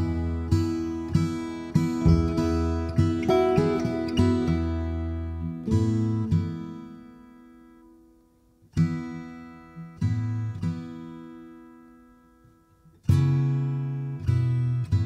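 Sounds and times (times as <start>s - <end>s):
strummed acoustic guitar chords: 0.0s - 8.0s, 8.7s - 15.0s.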